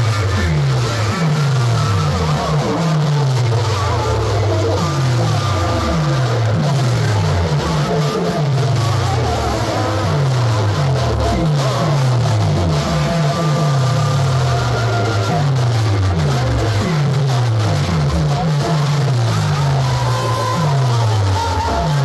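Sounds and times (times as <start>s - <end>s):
deep bass note sliding down: 0.0s - 22.0s
distorted dj music: 0.0s - 22.0s.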